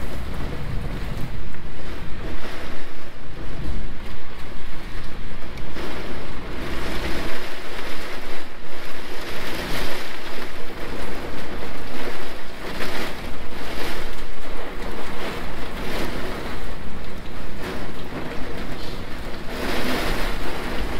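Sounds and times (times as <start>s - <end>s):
low buffeting rumble: 0.0s - 20.9s
wind gusting on microphone: 0.0s - 20.9s.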